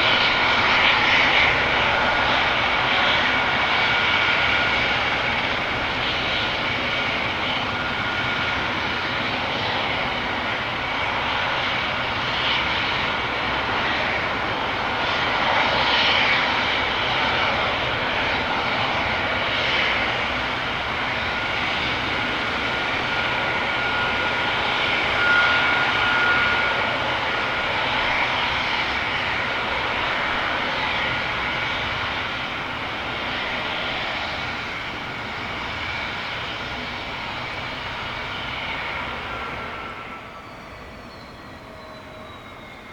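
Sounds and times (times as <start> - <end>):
helicopter rotor noise: 0.0 - 42.9
helicopter turbine engines whining: 0.0 - 42.9.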